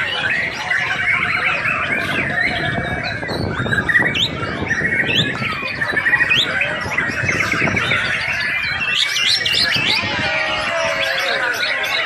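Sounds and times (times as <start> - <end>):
bird singing trills and whistles: 0.0 - 12.0.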